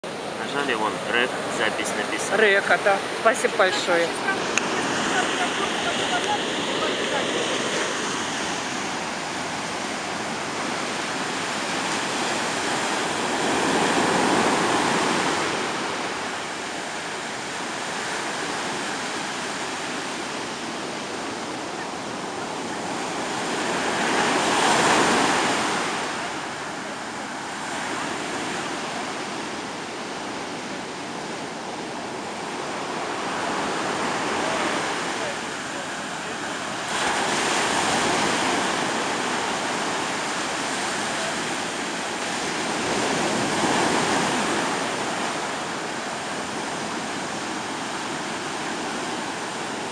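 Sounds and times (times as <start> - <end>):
surf breaking on beach: 0.1 - 49.9.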